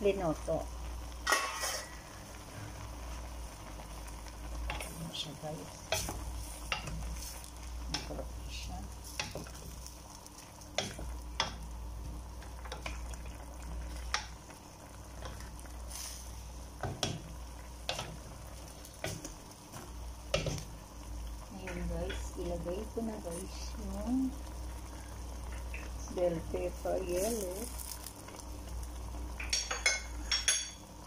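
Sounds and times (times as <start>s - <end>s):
stew cooking hiss: 0.0s - 31.0s.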